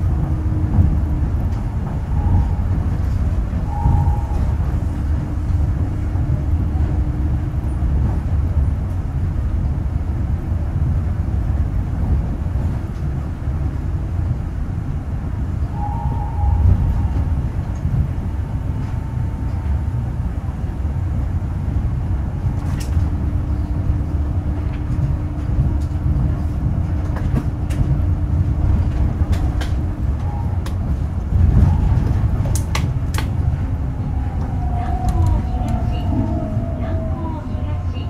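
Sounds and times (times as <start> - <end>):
people mover low rumble: 0.0 - 38.0.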